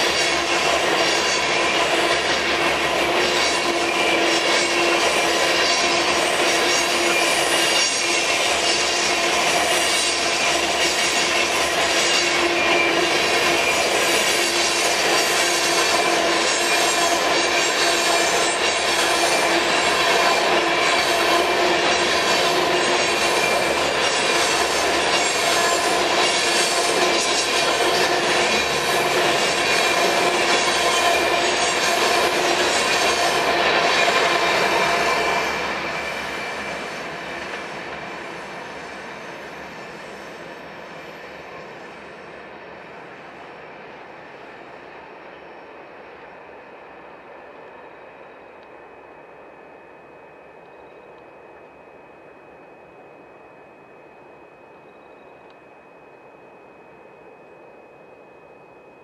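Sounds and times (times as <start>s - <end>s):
freight cars rolling on rails: 0.0s - 59.0s.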